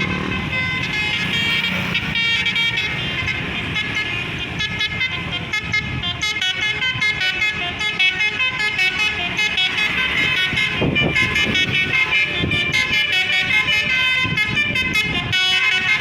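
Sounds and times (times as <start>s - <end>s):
musical vehicle horn melody: 0.0s - 16.0s.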